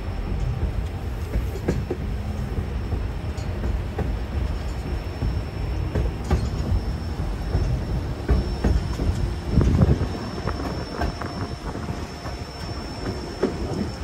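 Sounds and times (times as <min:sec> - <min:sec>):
train rumbling along track: 0:00.0 - 0:14.0
wheels clicking and rattling: 0:00.0 - 0:14.0.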